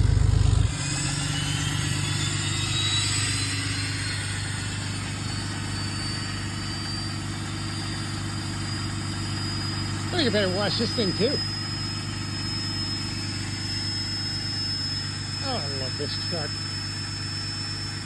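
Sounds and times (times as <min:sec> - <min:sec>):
diesel pickup engine running: 0:00.0 - 0:18.0
high rising whistle: 0:00.6 - 0:18.0.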